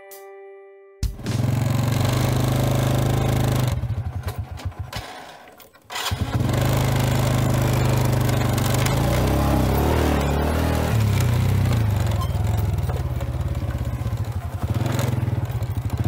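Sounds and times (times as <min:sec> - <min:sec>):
small engine running: 0:01.2 - 0:16.0.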